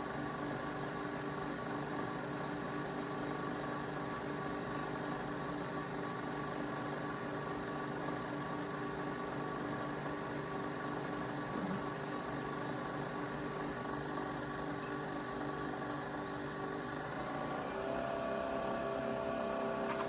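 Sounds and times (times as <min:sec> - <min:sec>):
coffee machine whirring hum: 0:00.0 - 0:20.0.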